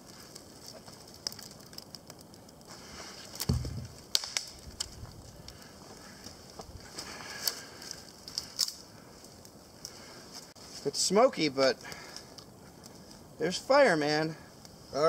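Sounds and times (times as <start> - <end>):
kindling fire crackling: 0.0 - 15.0.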